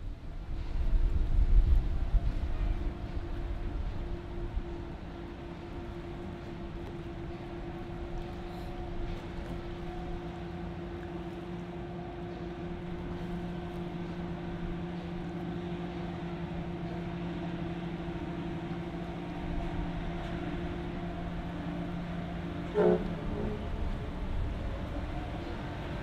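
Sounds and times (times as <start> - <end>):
diesel engine droning: 1.8 - 26.0.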